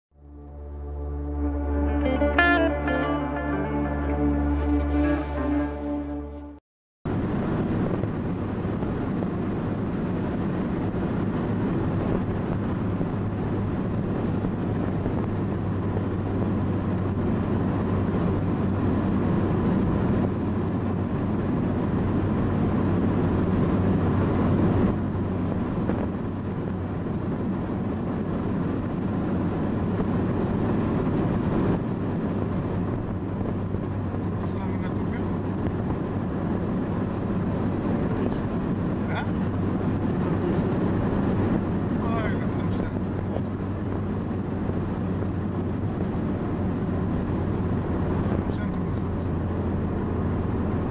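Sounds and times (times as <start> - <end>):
car engine drone: 0.1 - 50.9
road noise: 0.1 - 50.9.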